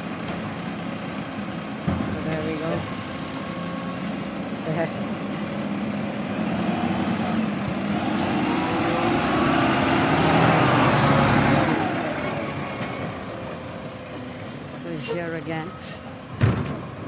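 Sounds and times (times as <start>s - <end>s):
collection truck engine running: 0.0s - 17.0s.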